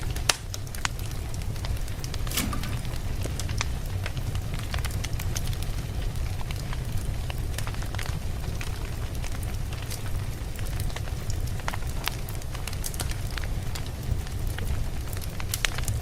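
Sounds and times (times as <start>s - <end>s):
burning wood crackling and popping: 0.0s - 16.0s
campfire low rumble: 0.0s - 16.0s.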